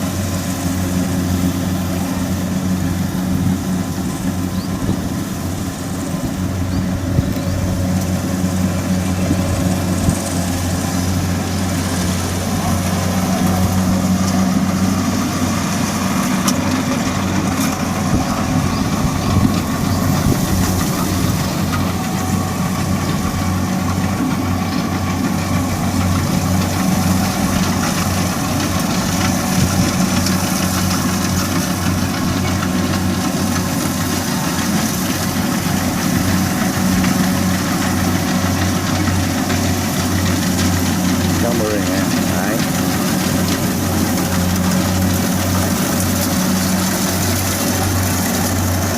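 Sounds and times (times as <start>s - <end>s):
combine harvester diesel engine droning: 0.0s - 48.9s
machinery noise: 0.0s - 48.9s.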